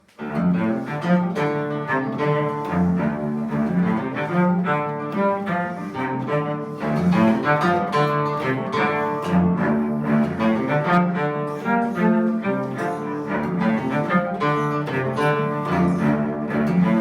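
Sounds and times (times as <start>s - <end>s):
instrumental music with low strings: 0.0s - 17.0s.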